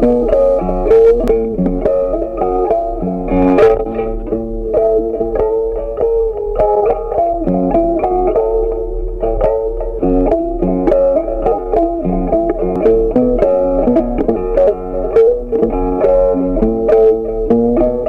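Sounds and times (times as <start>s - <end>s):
plucked guitar melody: 0.0s - 18.0s.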